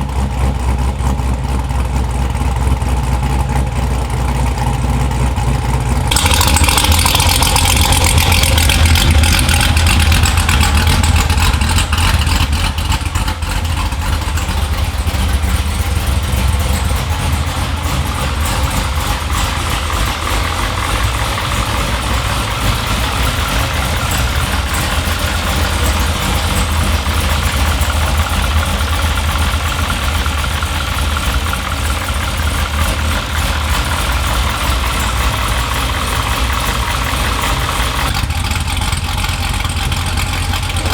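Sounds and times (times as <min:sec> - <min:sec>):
car engine idling with lopey rumble: 0:00.0 - 0:40.9.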